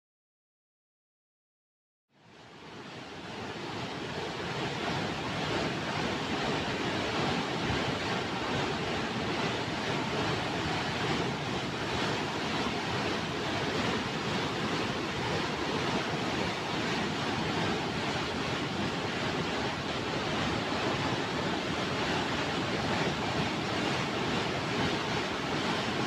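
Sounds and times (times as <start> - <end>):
river rushing: 2.2 - 26.0.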